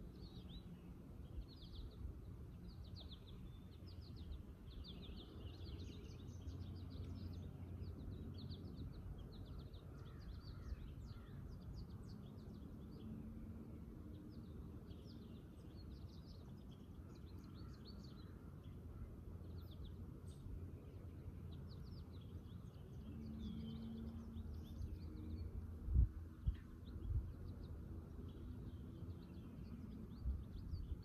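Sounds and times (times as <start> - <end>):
low outdoor rumble: 0.0 - 31.0
songbirds chirping and singing: 0.0 - 31.0.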